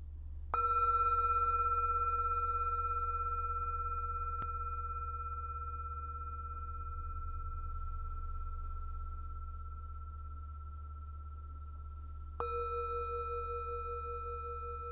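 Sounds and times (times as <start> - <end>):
low steady hum: 0.0 - 14.9
singing bowl ringing: 0.5 - 14.9.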